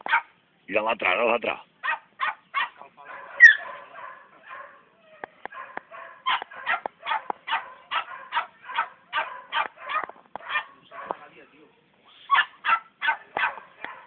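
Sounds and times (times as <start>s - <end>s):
puppies yapping: 0.0s - 0.4s, 1.8s - 11.3s, 12.3s - 14.0s.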